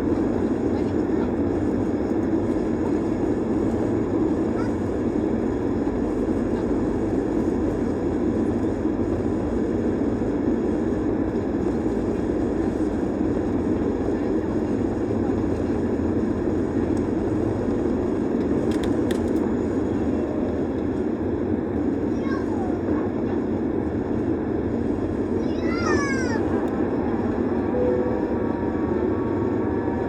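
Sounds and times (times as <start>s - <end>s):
jet engines roaring in cabin: 0.0s - 30.0s.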